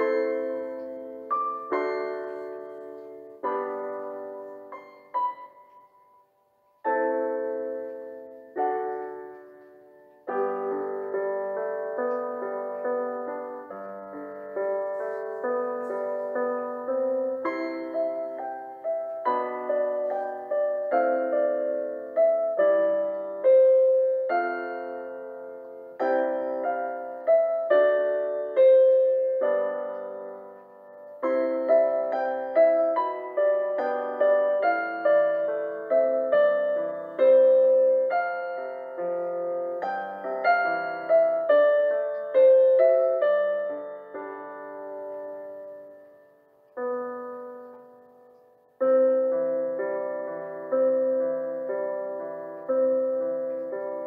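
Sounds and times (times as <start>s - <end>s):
slow gentle piano chords: 0.0s - 54.0s.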